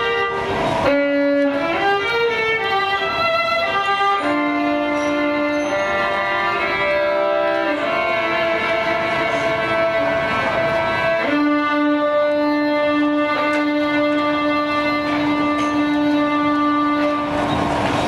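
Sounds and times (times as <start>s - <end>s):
violin long held notes: 0.0s - 18.0s.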